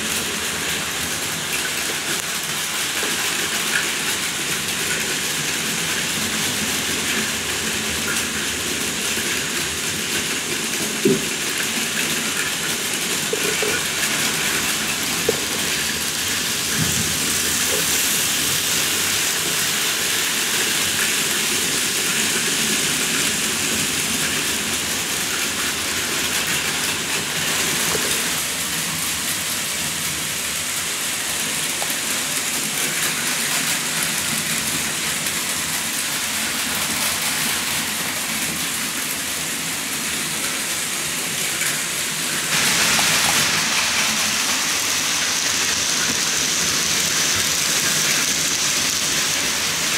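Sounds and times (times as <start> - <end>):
model trains whirring on track: 0.0 - 49.9.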